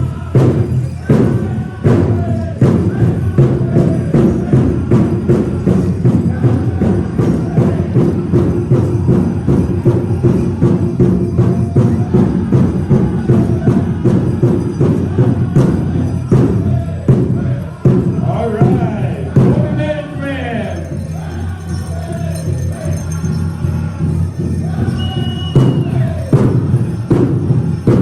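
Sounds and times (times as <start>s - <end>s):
powwow drum beating: 0.0s - 28.0s
singers' voices: 0.0s - 28.0s.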